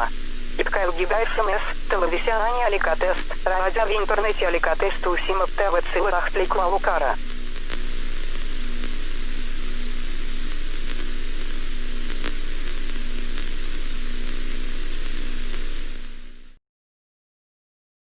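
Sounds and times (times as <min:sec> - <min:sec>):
low steady hum: 0:00.0 - 0:16.6
radio static hiss: 0:00.0 - 0:16.6.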